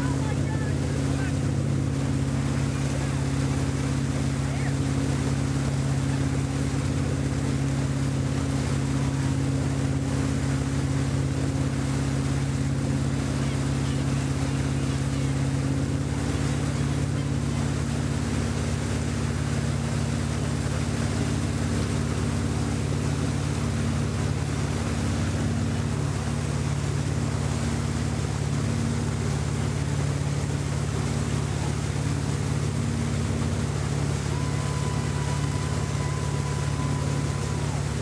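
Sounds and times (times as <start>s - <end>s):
motorboat engine running: 0.0s - 38.0s
water rushing: 0.0s - 38.0s.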